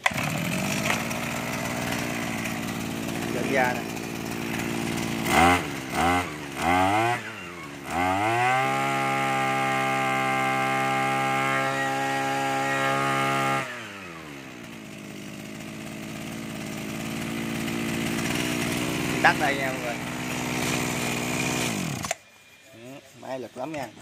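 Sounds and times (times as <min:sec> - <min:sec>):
brush cutter engine revving: 0:00.0 - 0:22.5, 0:23.2 - 0:24.0.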